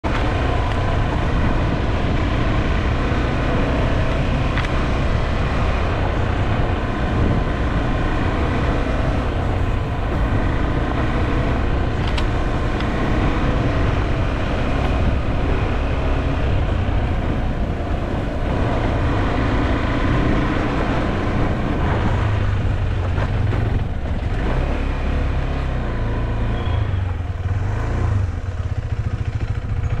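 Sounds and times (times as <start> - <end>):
constant low rumble: 0.0 - 30.0
motorcycle engine running: 0.0 - 30.0.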